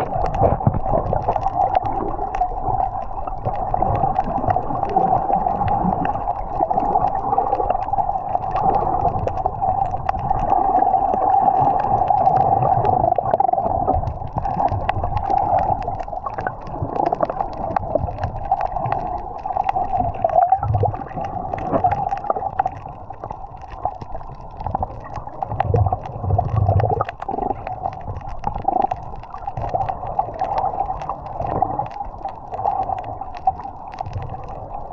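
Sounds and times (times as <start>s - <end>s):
small crackles and clicks: 0.0s - 34.9s
underwater gurgling and rumbling: 0.0s - 34.9s.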